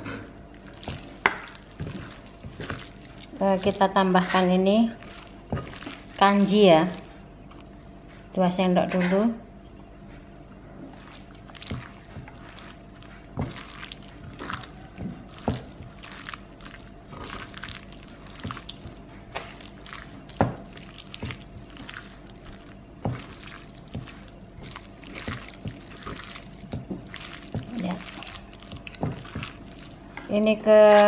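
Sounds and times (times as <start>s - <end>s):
wet squelching of kneaded meat: 0.5s - 8.4s, 10.8s - 31.0s.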